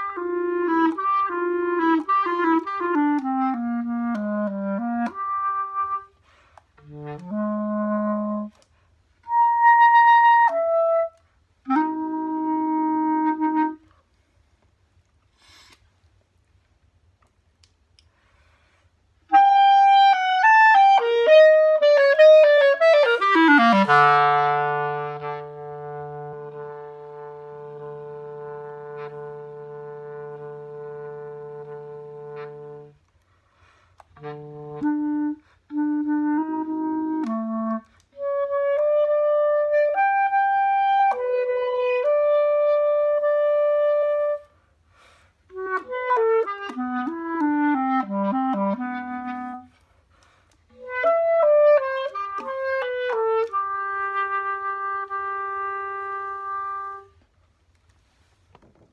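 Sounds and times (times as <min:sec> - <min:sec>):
solo clarinet playing: 0:00.0 - 0:14.2, 0:19.2 - 0:33.2, 0:34.0 - 0:58.3.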